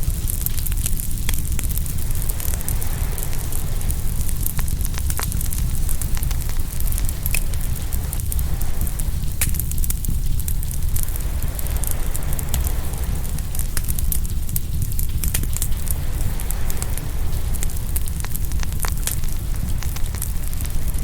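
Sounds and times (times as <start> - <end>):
ocean surf rumble: 0.0 - 21.0
wood fire crackling and popping: 0.0 - 21.0.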